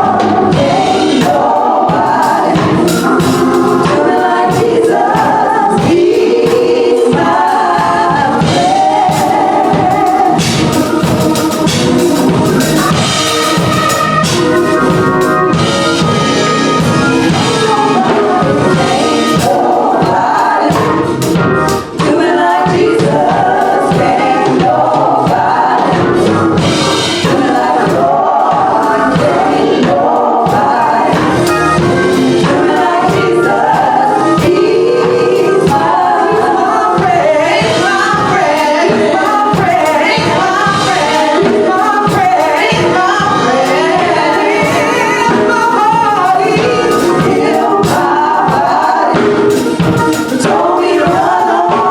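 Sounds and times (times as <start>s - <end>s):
gospel choir singing: 0.0s - 51.9s
instrumental accompaniment with beat: 0.0s - 51.9s.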